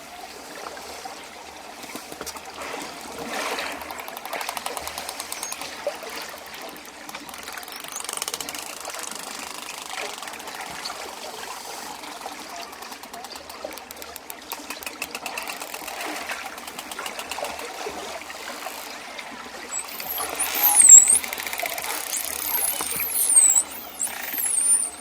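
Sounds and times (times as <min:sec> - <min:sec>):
dolphin clicking: 0:02.0 - 0:25.0.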